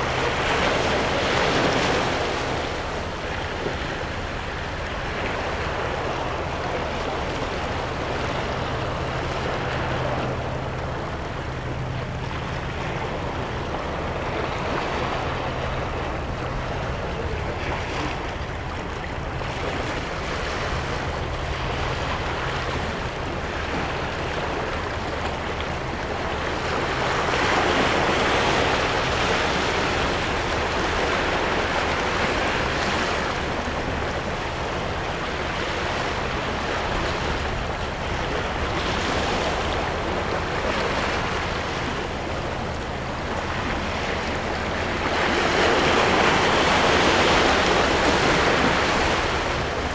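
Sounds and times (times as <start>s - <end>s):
waves washing over rocks: 0.0s - 49.9s.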